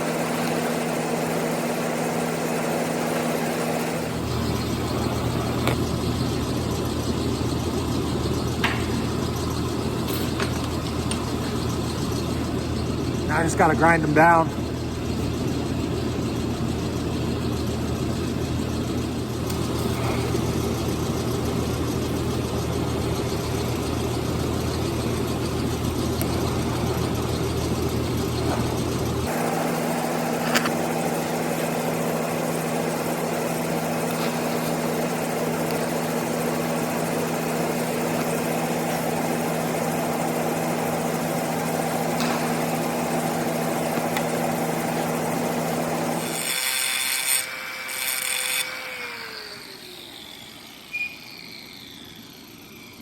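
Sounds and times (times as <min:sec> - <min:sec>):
power grinder grinding metal: 0:00.0 - 0:14.5, 0:17.5 - 0:53.0.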